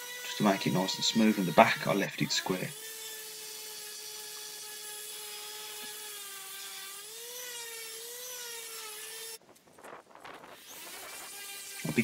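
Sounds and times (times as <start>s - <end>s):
orbital sander on wood: 0.0s - 9.4s, 10.4s - 12.0s.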